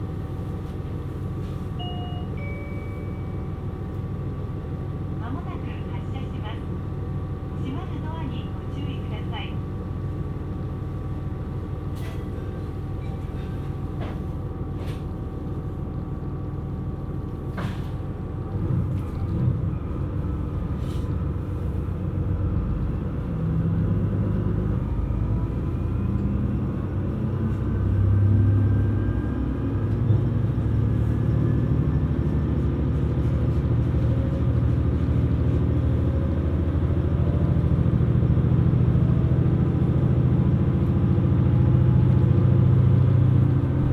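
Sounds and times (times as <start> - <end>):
diesel railcar engine: 0.0 - 43.9.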